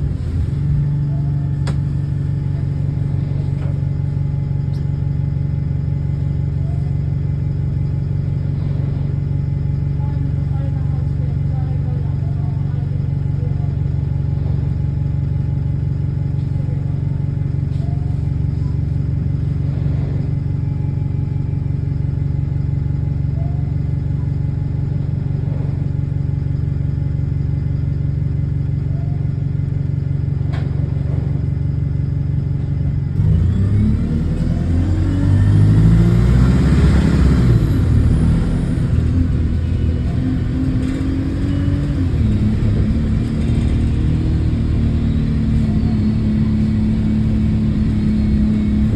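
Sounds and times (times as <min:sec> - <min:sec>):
bus diesel engine idling and revving: 0:00.0 - 0:48.9.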